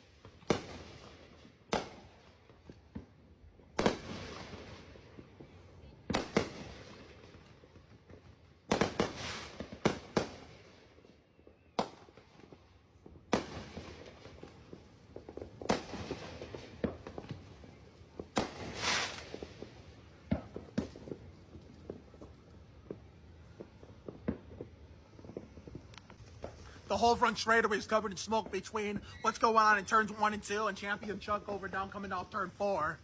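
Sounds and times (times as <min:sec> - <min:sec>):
firework crackle and pops: 0:00.0 - 0:33.0
firework bangs: 0:00.2 - 0:03.1, 0:03.7 - 0:10.8, 0:11.6 - 0:33.0.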